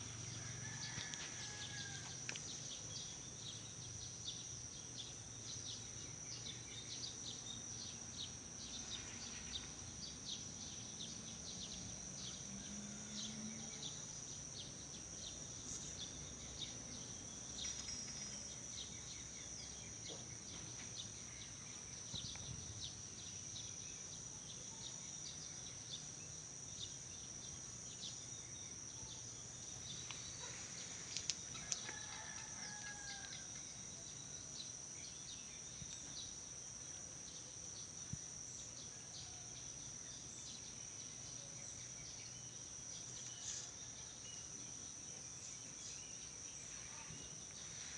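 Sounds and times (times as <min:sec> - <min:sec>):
high-pitched insect drone: 0:00.0 - 0:20.2, 0:21.0 - 0:47.9.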